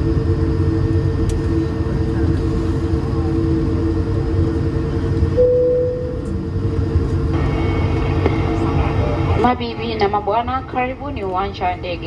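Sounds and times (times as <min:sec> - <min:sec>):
aircraft cabin rumble: 0:00.0 - 0:12.0
jet engine hum: 0:00.0 - 0:12.0.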